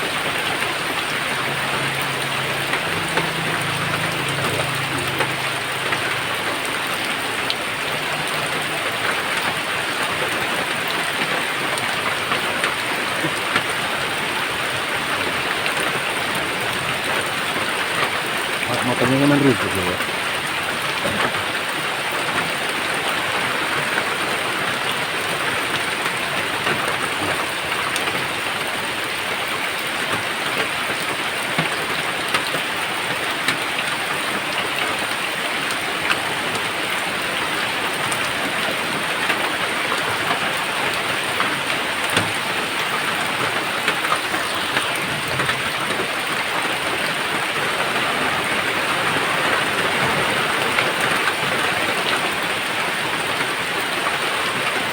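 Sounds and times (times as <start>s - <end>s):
raindrops ticking: 0.0s - 54.9s
steady rain hiss: 0.0s - 54.9s.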